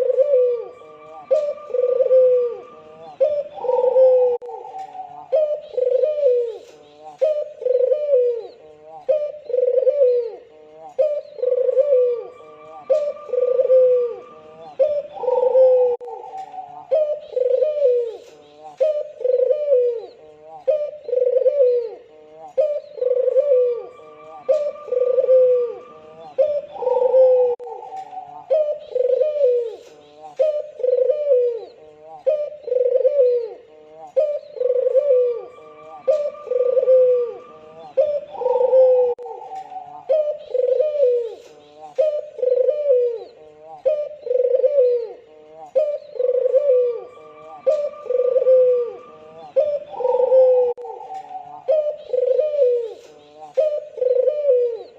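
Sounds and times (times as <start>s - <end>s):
dove cooing: 0.0s - 54.9s.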